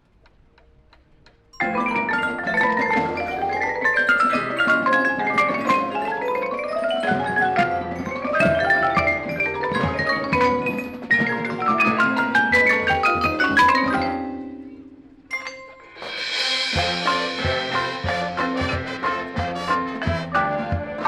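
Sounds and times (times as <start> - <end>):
bell-like mallet percussion: 1.5 - 21.0
marimba runs: 1.5 - 21.0.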